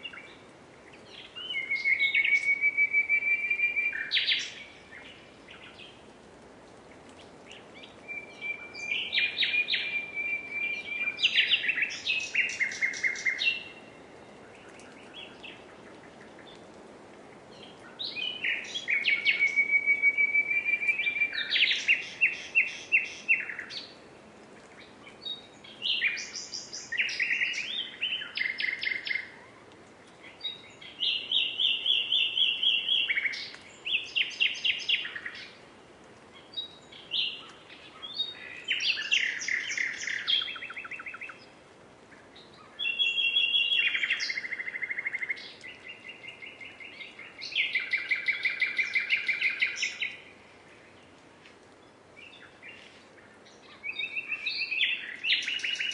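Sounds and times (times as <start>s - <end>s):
nightingale singing: 0.0s - 6.0s, 7.0s - 16.6s, 17.5s - 24.0s, 24.6s - 29.4s, 30.1s - 35.6s, 36.3s - 51.2s, 51.8s - 55.9s.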